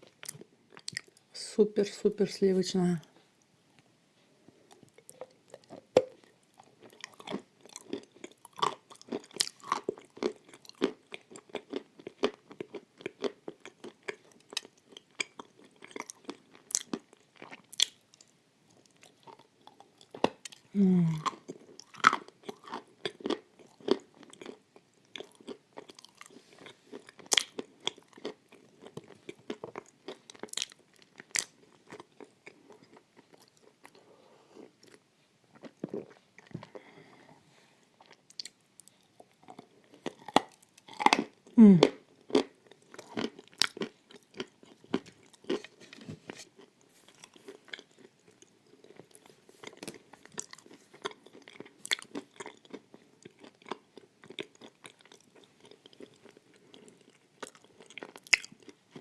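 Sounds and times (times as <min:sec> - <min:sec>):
chewing and crunching: 0:00.0 - 0:01.3, 0:04.6 - 0:37.3, 0:37.9 - 0:59.0.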